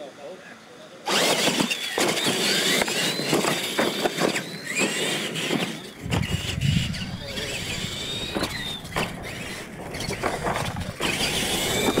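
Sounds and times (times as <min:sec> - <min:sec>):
rc truck motors whining: 0:01.0 - 0:12.0.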